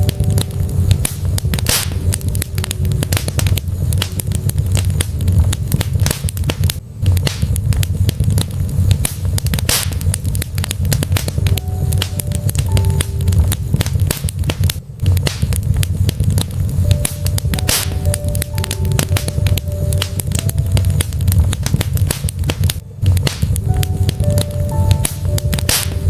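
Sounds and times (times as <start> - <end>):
logs crackling and popping: 0.0 - 26.0
low rumble of flames: 0.0 - 26.0.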